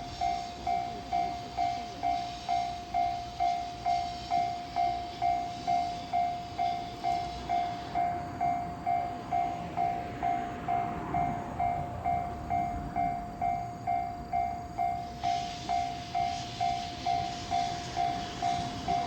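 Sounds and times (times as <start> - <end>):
high hiss: 0.0 - 19.0
level-crossing warning bell: 0.0 - 19.0
steam train rumbling: 0.0 - 19.0.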